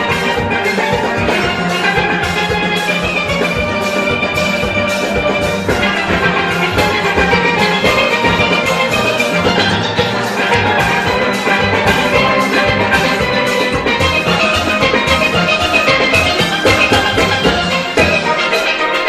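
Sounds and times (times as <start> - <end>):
steady drum beat: 0.0 - 19.0
steel pans playing melody: 0.0 - 19.0.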